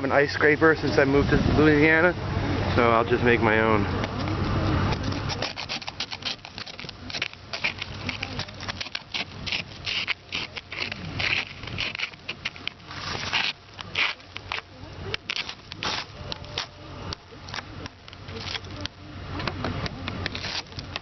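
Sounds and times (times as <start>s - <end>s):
ice being scraped: 4.1s - 21.0s.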